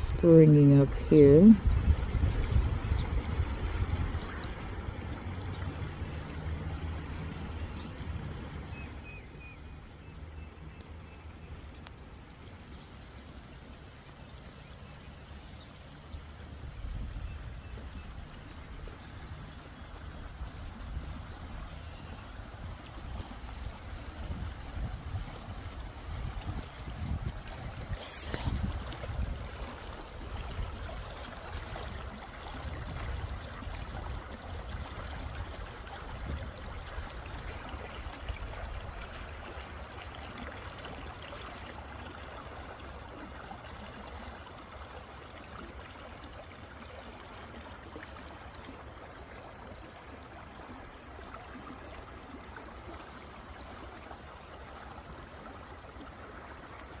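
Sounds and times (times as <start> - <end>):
stream of water running: 0.0 - 57.0.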